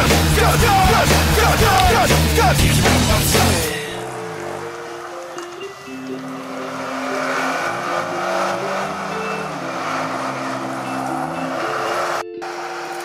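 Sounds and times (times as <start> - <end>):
background music: 0.0 - 13.0
car engine revving: 0.0 - 13.0
tyres churning through mud: 0.0 - 13.0.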